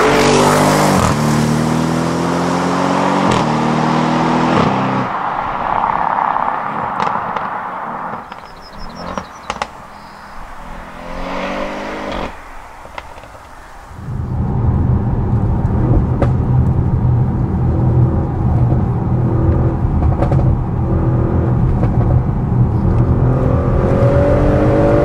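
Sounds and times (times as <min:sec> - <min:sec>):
car engine accelerating: 0:00.0 - 0:25.0
road noise: 0:00.0 - 0:25.0.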